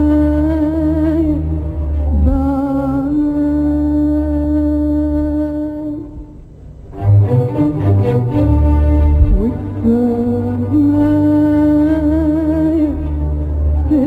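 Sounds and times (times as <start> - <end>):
low orchestral accompaniment: 0.0 - 14.0
woman singing with vibrato: 0.0 - 14.0.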